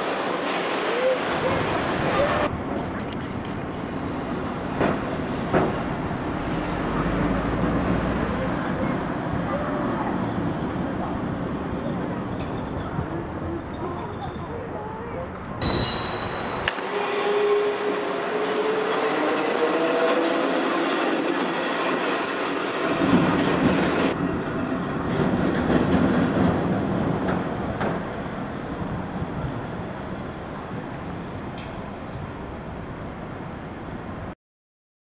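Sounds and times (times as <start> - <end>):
wheels rumbling and rattling on rails: 0.0 - 34.2.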